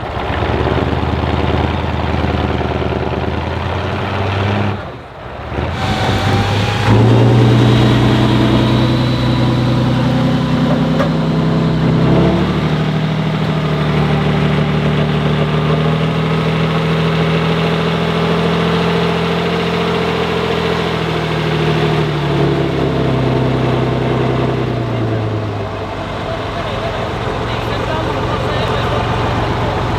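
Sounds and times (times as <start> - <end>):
truck engine running loudly: 0.0 - 29.9.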